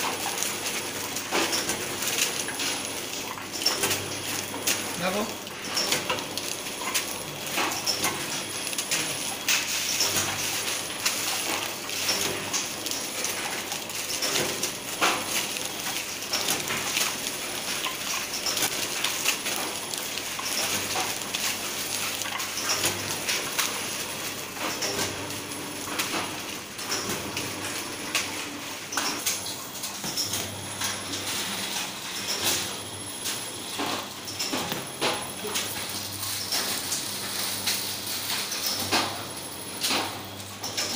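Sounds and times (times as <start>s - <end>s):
packaging machine clicking and clatter: 0.0s - 40.9s.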